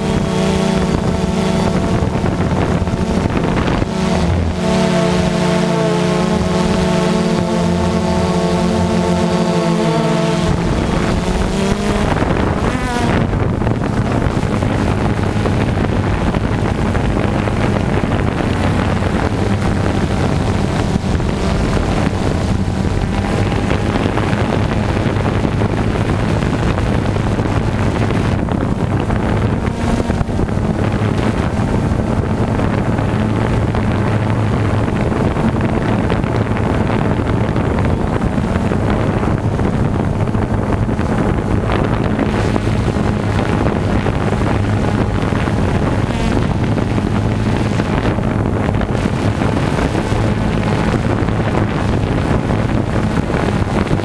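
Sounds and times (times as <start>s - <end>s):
drone motors humming: 0.0s - 54.0s
wind rushing on microphone: 0.0s - 54.0s.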